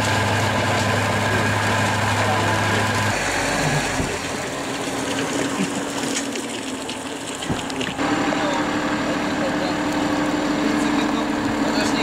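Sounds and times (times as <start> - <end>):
higher-pitched tractor engine hum: 0.0 - 12.0
tractor engine with rotary tiller: 0.0 - 12.0.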